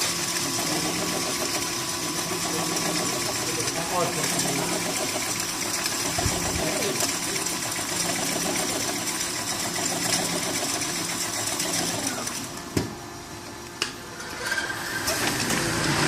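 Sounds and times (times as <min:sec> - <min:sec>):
machine whirring: 0:00.0 - 0:16.0.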